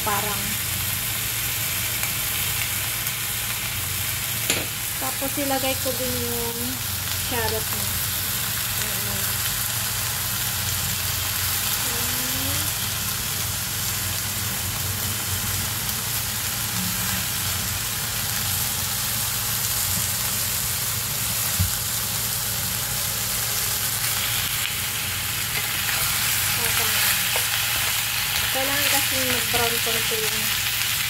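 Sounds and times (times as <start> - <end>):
meat sizzling in oil: 0.0 - 31.0.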